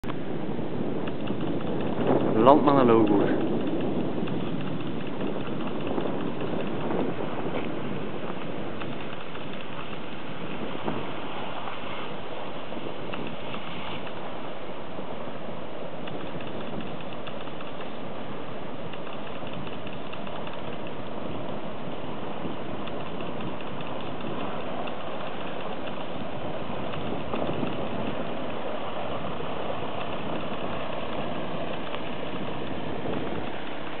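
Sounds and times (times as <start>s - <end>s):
water washing: 1.6s - 34.0s
vehicle engine running: 3.0s - 34.0s.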